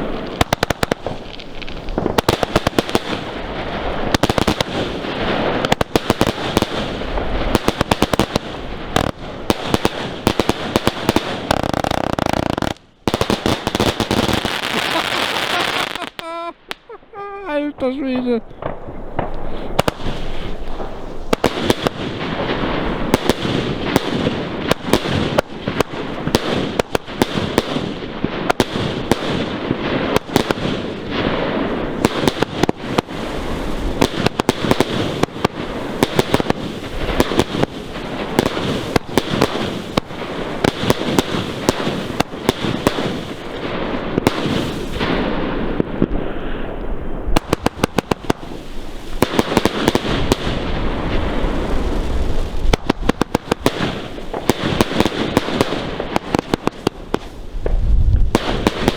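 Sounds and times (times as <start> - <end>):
fireworks bangs and crackling: 0.0 - 58.9
fireworks sharp cracks: 0.0 - 58.9.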